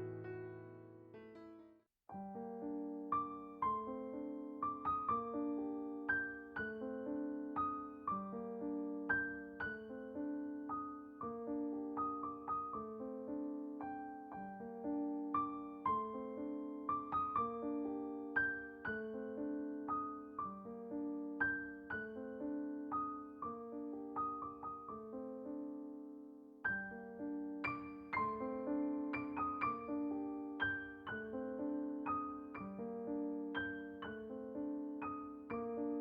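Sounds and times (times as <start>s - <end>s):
soft piano music: 0.0s - 36.0s.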